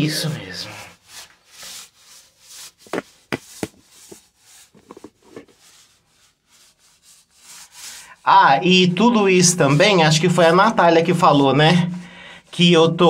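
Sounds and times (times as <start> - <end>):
paint roller swishing on wall: 0.5 - 11.4.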